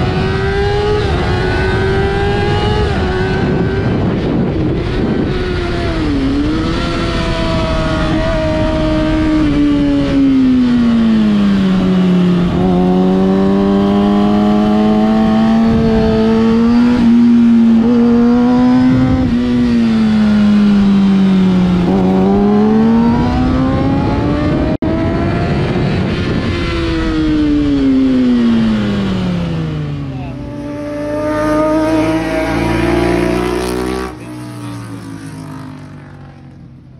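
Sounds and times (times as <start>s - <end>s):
wind rush: 0.0s - 36.8s
motorcycle engine at speed: 0.0s - 36.9s.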